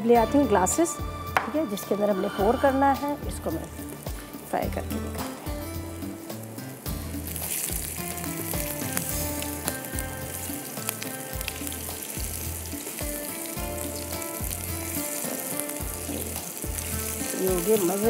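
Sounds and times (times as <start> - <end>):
background music with low beat: 0.0 - 18.0
food sizzling in hot oil: 0.0 - 18.0.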